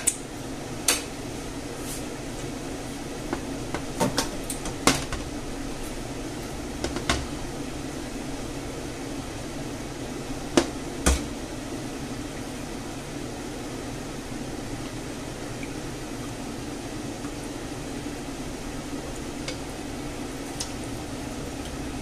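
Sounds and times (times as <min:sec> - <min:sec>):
fan-like hum: 0:00.0 - 0:22.0.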